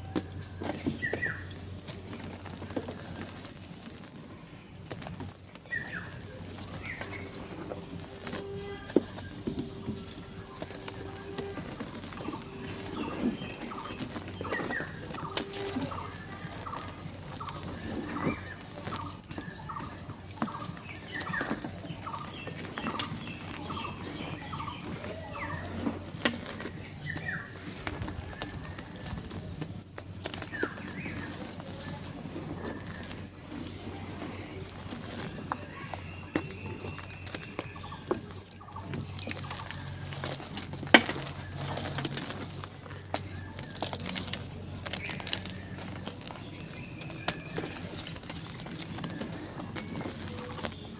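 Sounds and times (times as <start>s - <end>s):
chalk crunching and crumbling: 0.0s - 50.9s
bird chirping: 4.8s - 50.9s.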